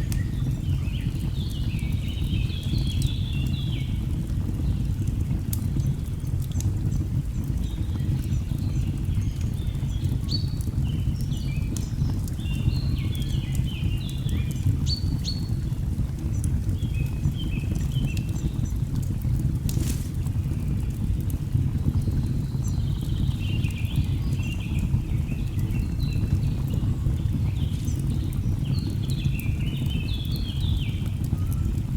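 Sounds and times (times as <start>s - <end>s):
log fire crackling and popping: 0.0s - 31.9s.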